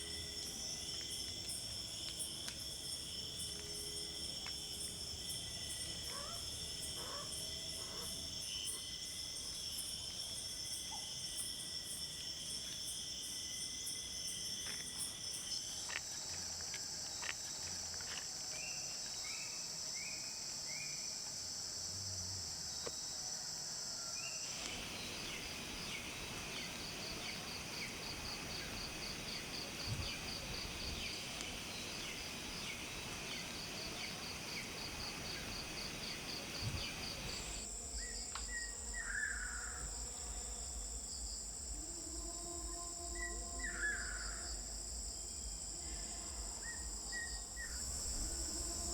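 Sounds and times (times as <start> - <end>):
insects droning: 0.0 - 48.9.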